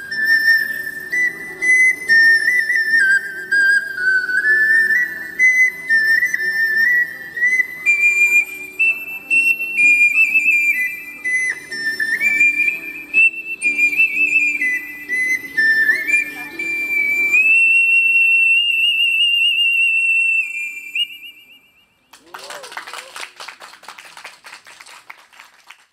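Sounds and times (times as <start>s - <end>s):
ocarina melody: 0.0s - 22.1s.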